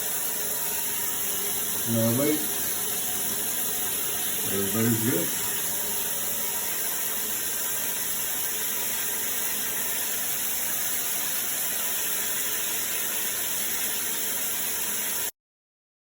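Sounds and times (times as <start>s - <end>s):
shower water spraying: 0.0s - 15.3s.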